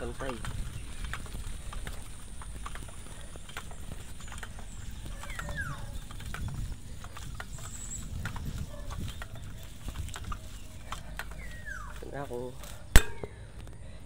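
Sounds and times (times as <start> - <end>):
wind rumble on microphone: 0.0 - 11.9
bicycle rattling clicks: 0.0 - 13.9.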